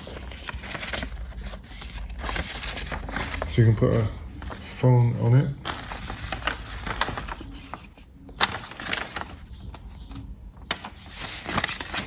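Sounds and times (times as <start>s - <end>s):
paper rustling and snapping: 0.0s - 3.6s, 5.6s - 12.0s.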